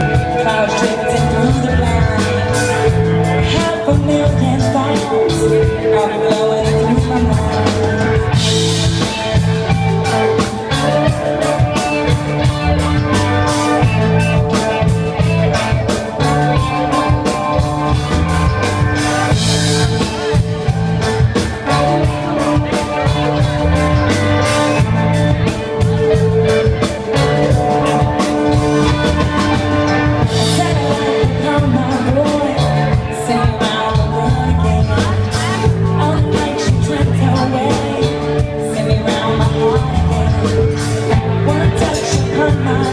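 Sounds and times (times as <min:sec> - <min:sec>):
live rock band playing: 0:00.0 - 0:42.9
person singing: 0:00.0 - 0:42.9.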